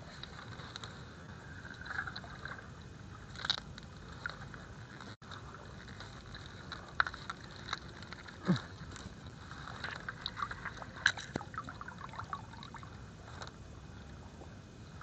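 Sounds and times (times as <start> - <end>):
sharp ticks and splashes: 0.0 - 14.3.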